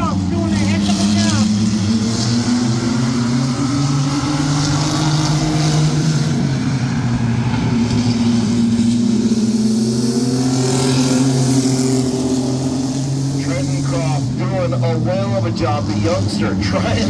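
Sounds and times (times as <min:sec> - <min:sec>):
racing truck engines droning: 0:00.0 - 0:17.0.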